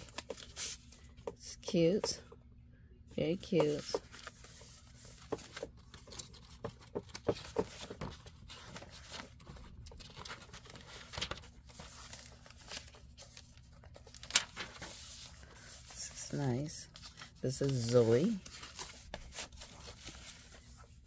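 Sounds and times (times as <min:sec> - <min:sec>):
paper pages rustling: 0:00.0 - 0:01.4, 0:03.4 - 0:21.0.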